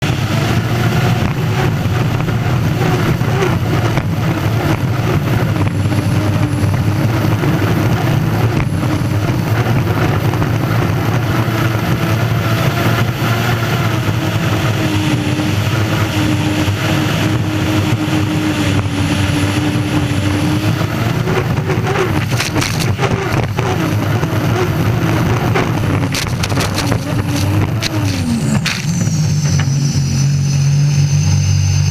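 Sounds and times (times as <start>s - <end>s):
gas turbine engine roar: 0.0s - 31.9s.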